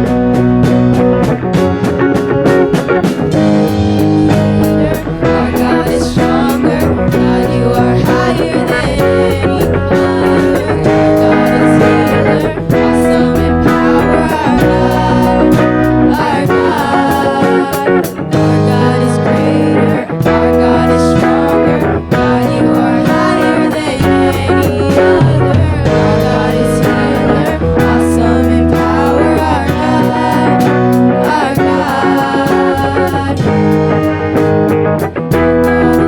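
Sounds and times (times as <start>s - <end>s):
steady drum beat: 0.0s - 36.0s
worship band music with guitar: 0.0s - 36.0s.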